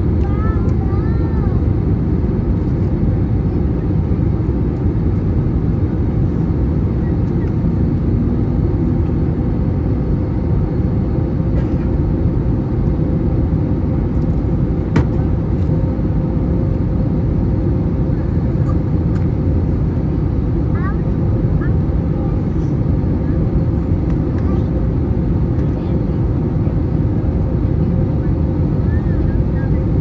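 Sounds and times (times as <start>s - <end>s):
airflow and engine rush: 0.0s - 30.0s.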